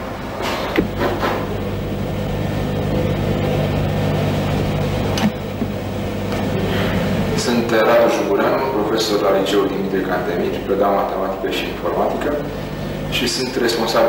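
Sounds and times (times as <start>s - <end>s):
computers humming: 0.0s - 14.0s.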